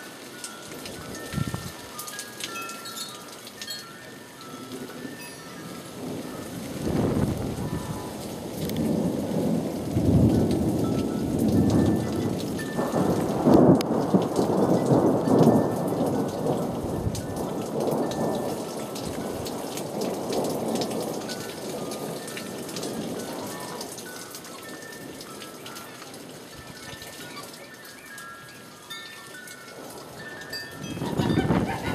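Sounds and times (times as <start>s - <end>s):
rain falling: 0.0s - 31.9s
raindrop ticks: 0.0s - 31.9s.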